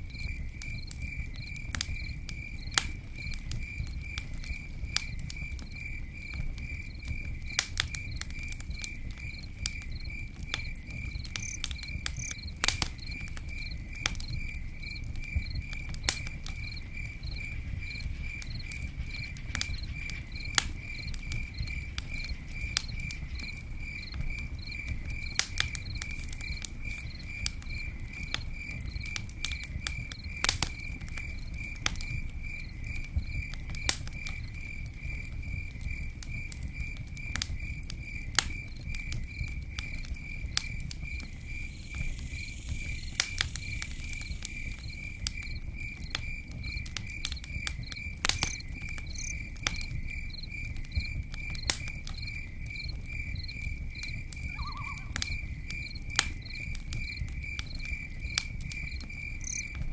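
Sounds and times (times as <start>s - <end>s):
campfire crackling: 0.0s - 59.9s
cricket chirping: 0.0s - 59.9s.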